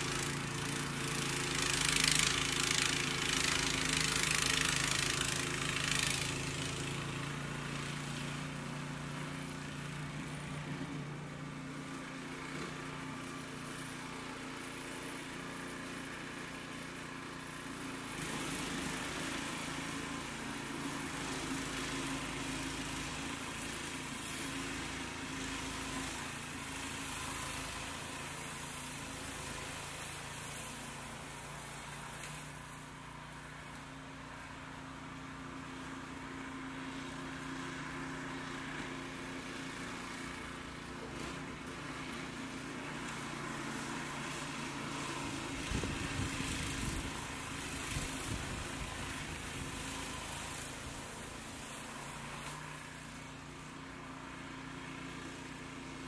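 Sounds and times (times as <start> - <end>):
snow blower engine running: 0.0 - 56.0.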